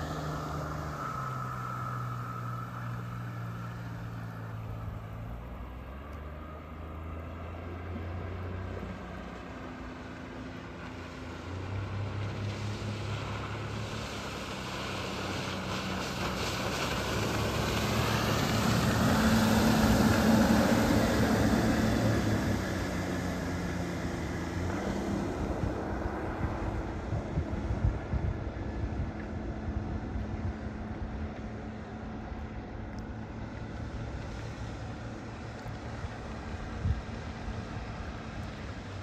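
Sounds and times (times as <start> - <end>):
outboard motor passing: 0.0 - 39.0.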